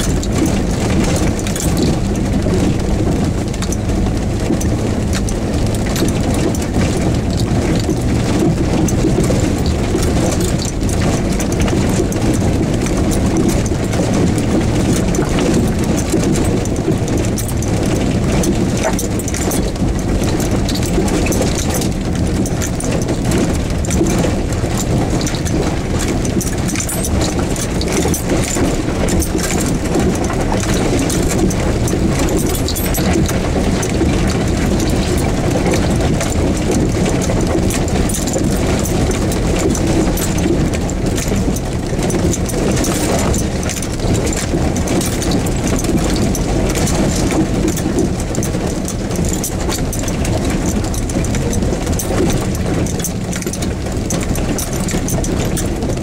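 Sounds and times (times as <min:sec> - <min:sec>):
engine and cabin noise: 0:00.0 - 0:56.0
small rattles and knocks: 0:00.0 - 0:56.0.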